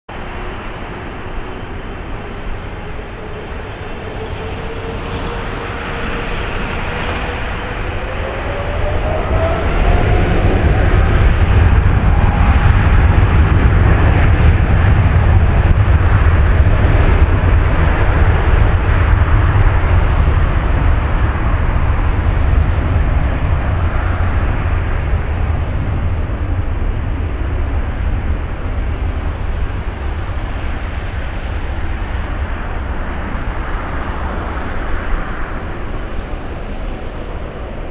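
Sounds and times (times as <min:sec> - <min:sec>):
jet engines rumbling: 0:00.1 - 0:37.9
jet engine whine rising: 0:00.2 - 0:37.9.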